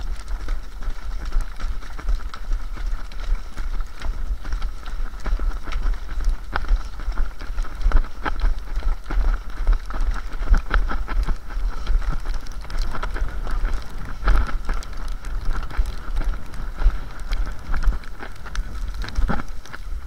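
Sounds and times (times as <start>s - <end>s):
skis scraping on snow: 0.0s - 20.0s
wind rumble on microphone: 0.0s - 20.0s.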